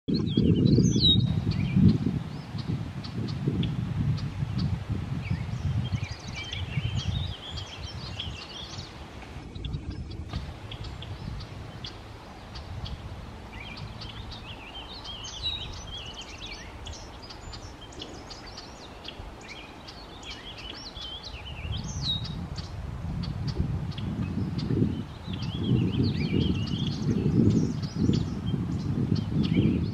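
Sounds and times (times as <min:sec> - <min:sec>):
birds singing and chirping: 0:00.1 - 0:29.9
low rumbling microphone noise: 0:00.1 - 0:29.9.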